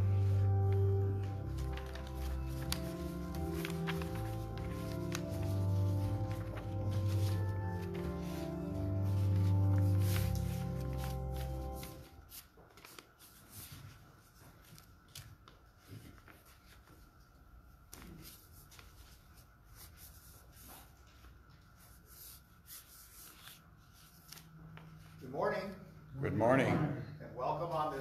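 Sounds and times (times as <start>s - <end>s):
paper rustling: 0.0s - 25.2s
faint steady hum: 0.0s - 28.0s.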